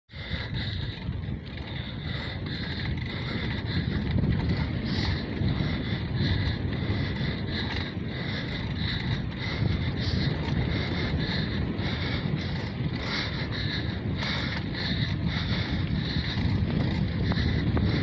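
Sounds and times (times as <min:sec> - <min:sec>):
wind rumbling on microphone: 0:00.1 - 0:18.0.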